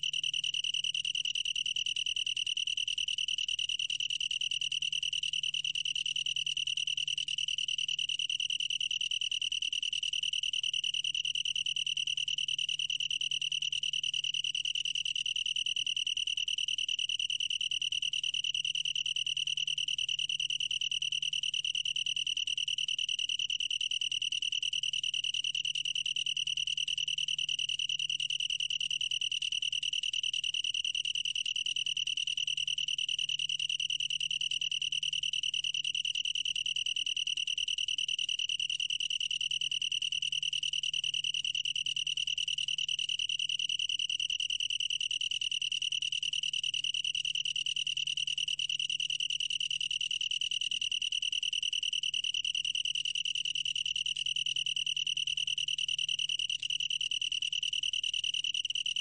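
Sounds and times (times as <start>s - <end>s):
tree cricket trilling: 0.0s - 59.0s.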